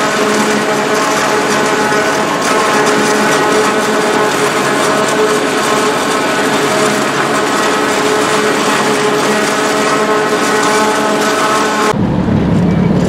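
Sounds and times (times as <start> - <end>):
forage harvester cutting corn: 0.0 - 12.0.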